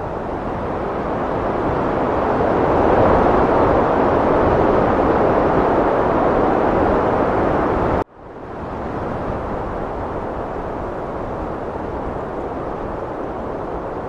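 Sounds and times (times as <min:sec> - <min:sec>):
heavy wind blowing: 0:00.0 - 0:14.0.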